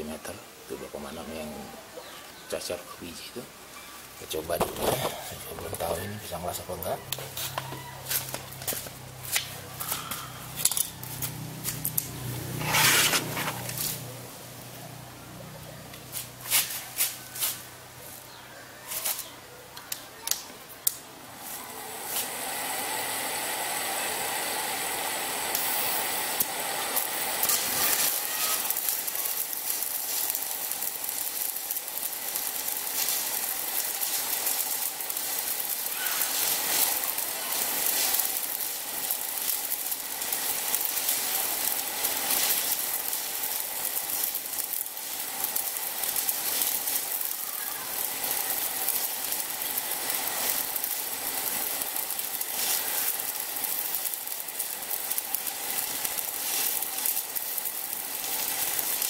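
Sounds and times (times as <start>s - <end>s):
welding arc crackling hiss: 0.0s - 59.0s
welding arc cracks: 4.0s - 59.0s.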